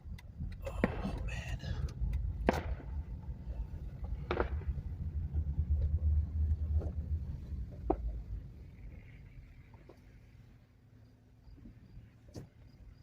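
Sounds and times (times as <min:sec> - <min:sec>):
car cabin rumble: 0:00.0 - 0:10.8.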